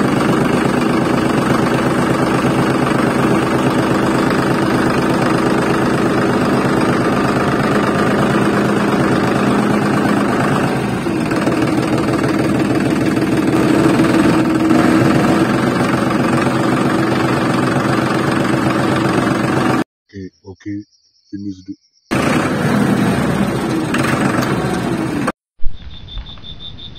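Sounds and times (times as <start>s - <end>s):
tractor engine chugging: 0.0s - 19.8s, 22.1s - 25.3s.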